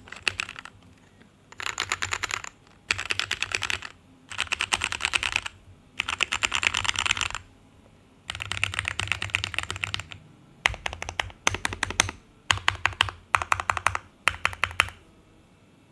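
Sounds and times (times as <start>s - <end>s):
mechanical keyboard typing: 0.0s - 0.9s, 1.5s - 7.5s, 8.3s - 15.0s.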